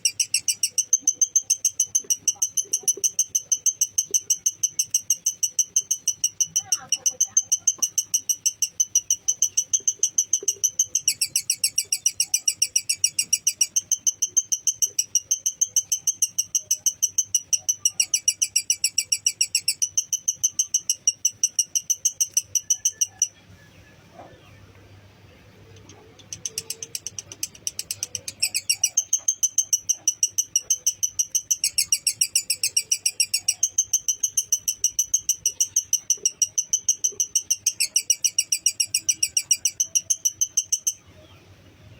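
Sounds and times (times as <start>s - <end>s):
lovebird chattering: 0.0s - 24.5s, 25.3s - 41.4s.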